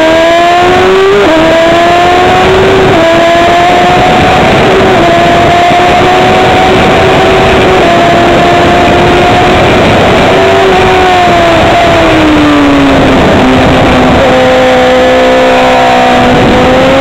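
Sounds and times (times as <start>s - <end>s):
motorcycle engine at high revs: 0.0s - 17.0s
wind rush on microphone: 0.0s - 17.0s.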